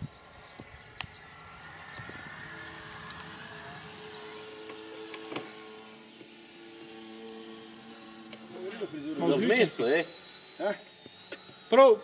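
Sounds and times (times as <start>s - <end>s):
model airplane engine whine: 0.0s - 12.0s.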